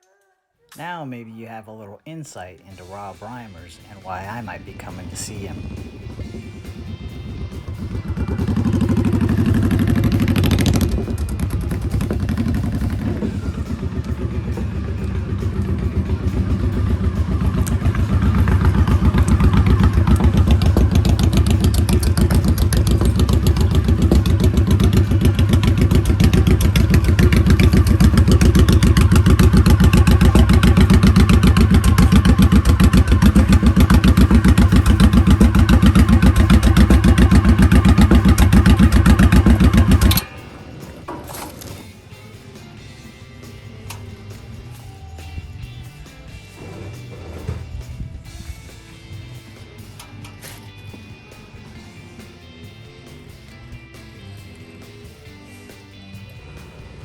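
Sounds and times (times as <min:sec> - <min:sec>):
motorcycle engine running: 0:02.9 - 0:57.0.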